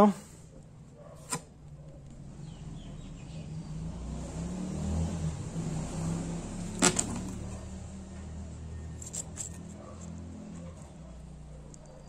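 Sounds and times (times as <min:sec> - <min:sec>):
vehicle engine hum: 0:01.6 - 0:12.0.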